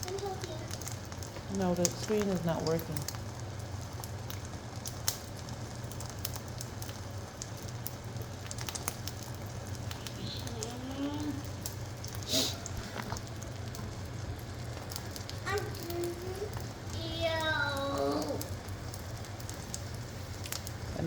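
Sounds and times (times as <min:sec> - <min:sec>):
crackling pops: 0:00.0 - 0:21.0
eggs sizzling in oil: 0:00.0 - 0:21.0.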